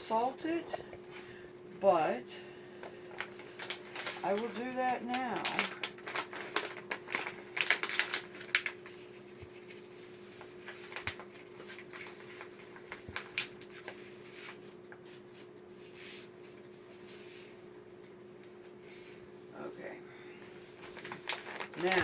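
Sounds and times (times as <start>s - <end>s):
steady low hum: 0.0s - 7.7s, 8.4s - 22.0s.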